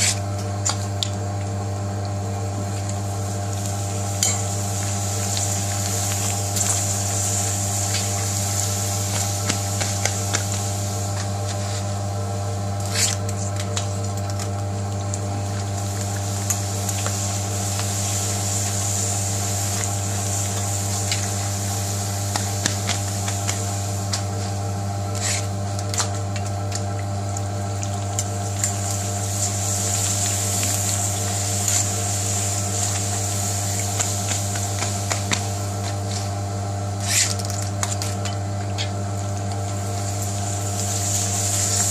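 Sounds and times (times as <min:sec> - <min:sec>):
hot oil sizzling: 0:00.0 - 0:41.9.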